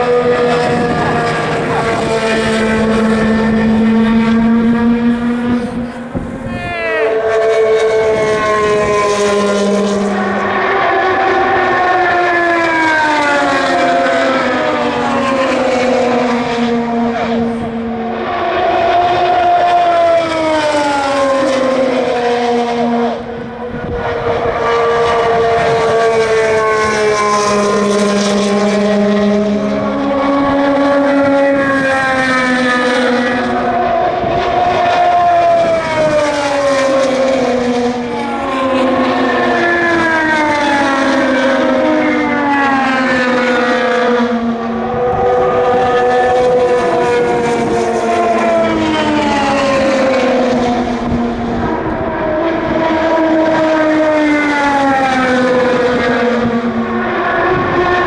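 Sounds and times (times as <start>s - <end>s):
race cars passing at speed: 0.0s - 58.0s.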